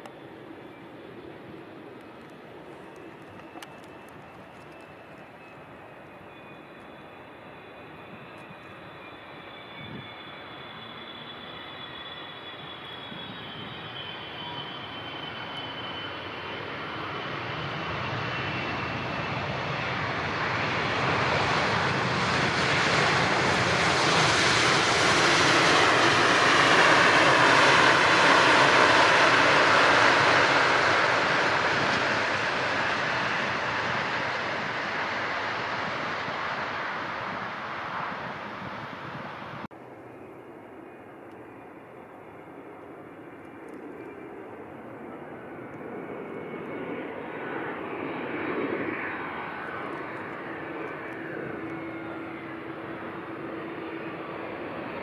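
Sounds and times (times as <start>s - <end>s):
airliner flying past: 0.0s - 55.0s
high engine whine: 0.0s - 55.0s.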